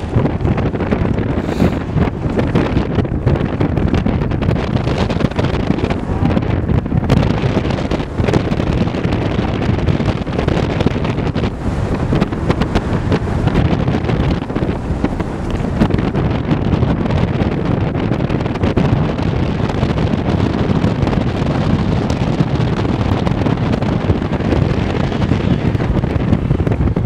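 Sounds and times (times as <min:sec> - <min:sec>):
car engine running: 0:00.0 - 0:27.0
wind buffeting microphone: 0:00.0 - 0:27.0.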